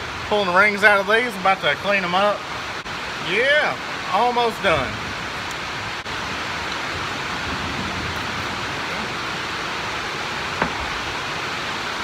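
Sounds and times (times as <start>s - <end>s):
heavy rain on metal roof: 0.0s - 12.0s.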